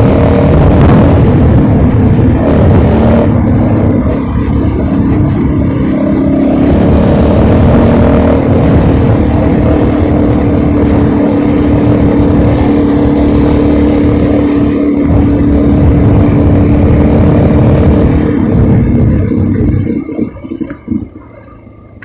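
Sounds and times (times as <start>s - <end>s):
engine drone: 0.0s - 22.0s
wind buffeting microphone: 0.0s - 22.0s.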